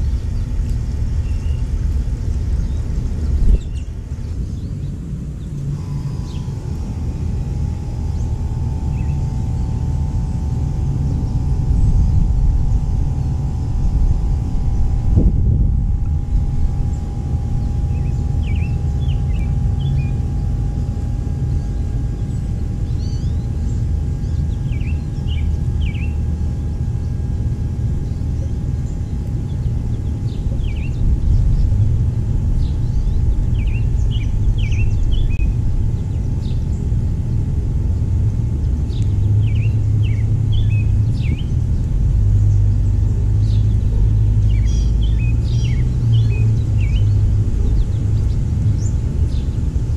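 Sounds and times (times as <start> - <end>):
songbird chirps: 0.0 - 27.2, 27.9 - 49.9
low outdoor rumble: 0.0 - 49.9.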